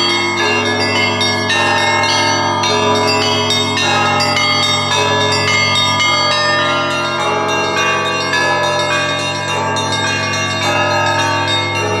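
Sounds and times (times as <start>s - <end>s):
deep hum of large bell: 0.0s - 12.0s
small bells struck quickly: 0.0s - 12.0s.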